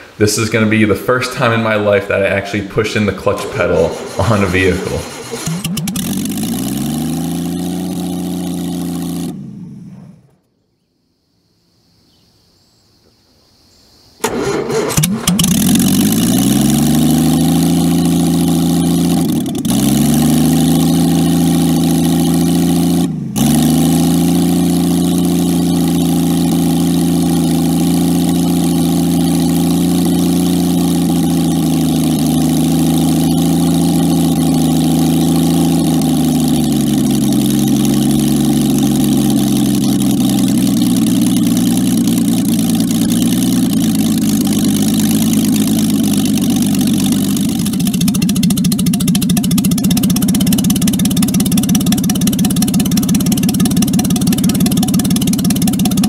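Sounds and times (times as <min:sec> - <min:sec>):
car engine idling: 0:00.0 - 0:10.6, 0:14.2 - 0:56.0
engine cranking: 0:03.2 - 0:09.5, 0:14.2 - 0:56.0.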